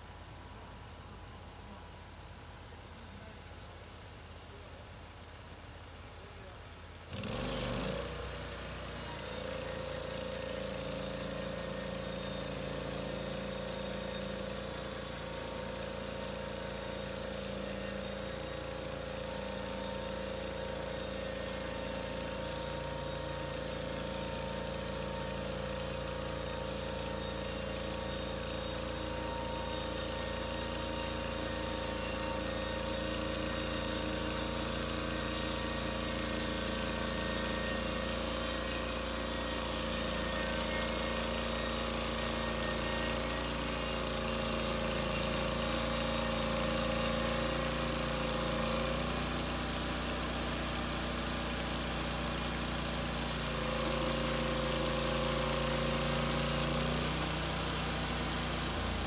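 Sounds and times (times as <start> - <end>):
bandsaw mill engine running: 7.1 - 59.0.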